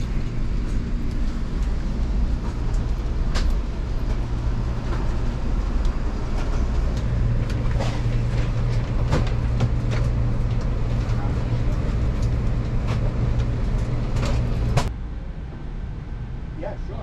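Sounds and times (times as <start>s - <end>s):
train car rumble and hum: 0.0s - 17.0s.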